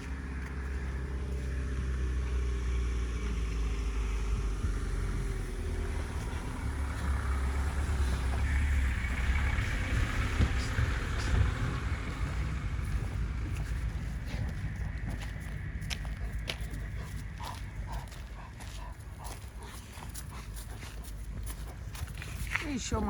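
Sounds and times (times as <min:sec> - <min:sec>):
car engine running: 0:00.0 - 0:23.0
road noise: 0:00.0 - 0:23.0.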